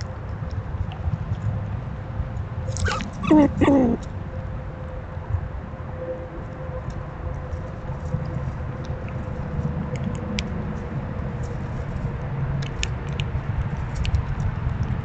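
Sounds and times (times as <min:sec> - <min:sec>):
squirrels foraging in dry leaves: 0:00.0 - 0:04.1, 0:06.9 - 0:15.0
steady low rumble: 0:00.0 - 0:15.0.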